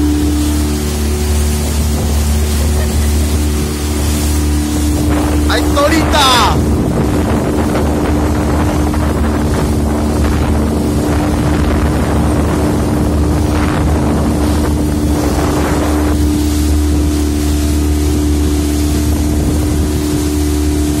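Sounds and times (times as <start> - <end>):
outboard motor droning: 0.0 - 21.0
water rushing past hull: 0.0 - 21.0
wind on microphone: 0.0 - 21.0.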